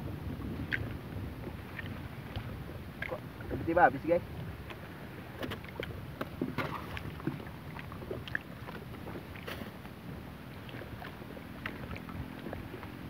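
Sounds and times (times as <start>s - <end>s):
small waves lapping at shore: 0.0s - 13.0s
water splashes: 0.0s - 13.0s
wind: 0.0s - 13.0s.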